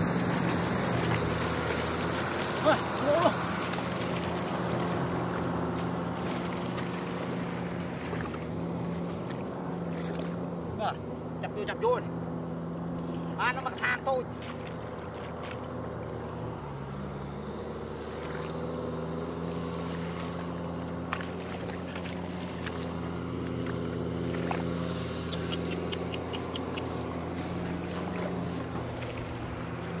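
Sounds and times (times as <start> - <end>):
wet splashes in mud: 0.0 - 10.5, 14.2 - 30.0
tractor engine running: 0.0 - 30.0.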